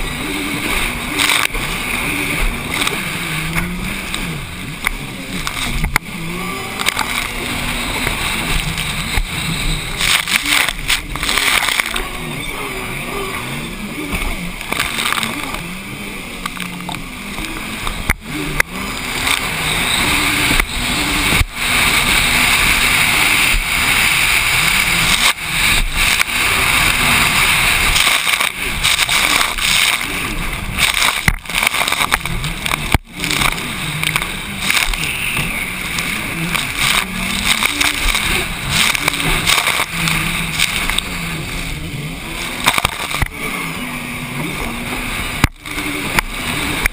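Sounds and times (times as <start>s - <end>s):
jet ski engine running hard: 0.0s - 46.9s
wind and spray rushing: 0.0s - 46.9s.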